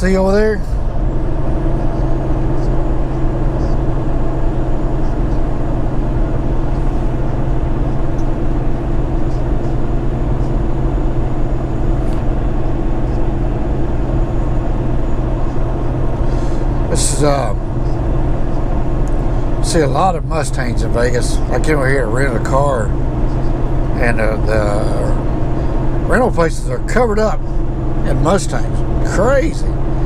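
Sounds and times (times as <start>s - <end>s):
road noise: 0.0s - 30.0s
truck diesel engine droning: 0.0s - 30.0s.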